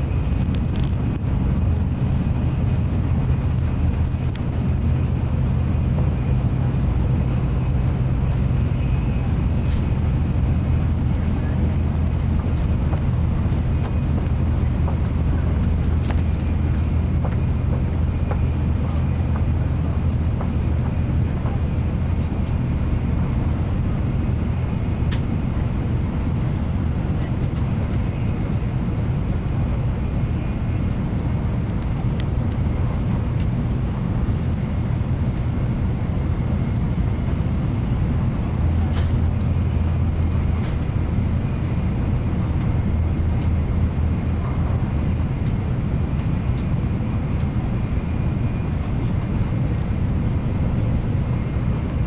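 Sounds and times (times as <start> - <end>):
low rumble of train: 0.0 - 52.0.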